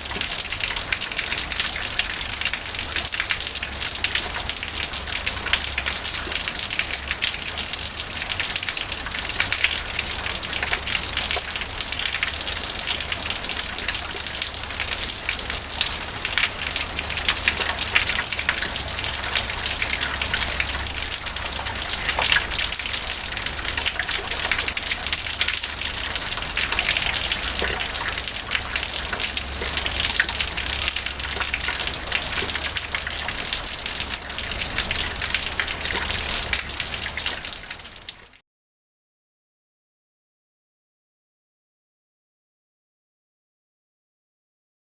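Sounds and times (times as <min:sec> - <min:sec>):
water trickling and dripping: 0:00.0 - 0:38.4.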